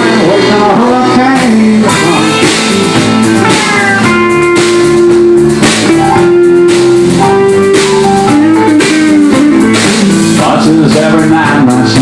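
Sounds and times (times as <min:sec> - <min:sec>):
drum kit beat: 0:00.0 - 0:12.0
guitar holding long notes: 0:00.0 - 0:12.0.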